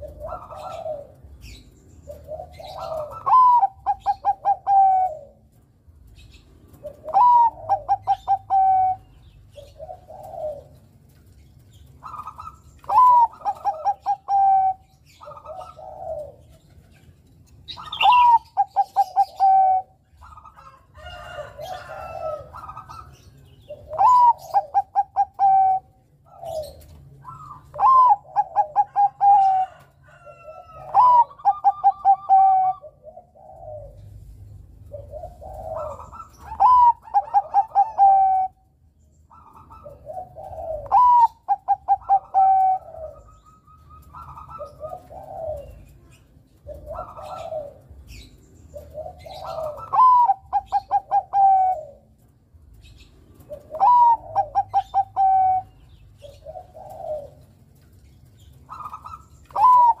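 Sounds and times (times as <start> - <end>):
dove cooing: 0.0 - 60.0.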